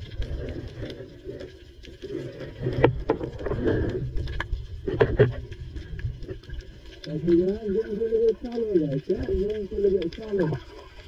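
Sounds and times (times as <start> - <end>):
muffled underwater churning: 0.0 - 11.0.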